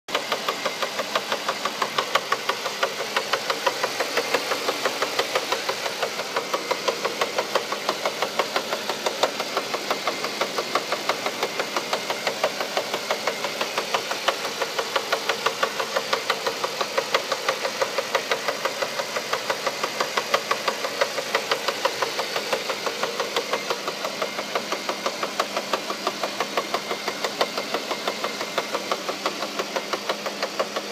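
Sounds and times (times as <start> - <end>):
car engine running: 0.1 - 30.9
engine knock: 0.1 - 30.9.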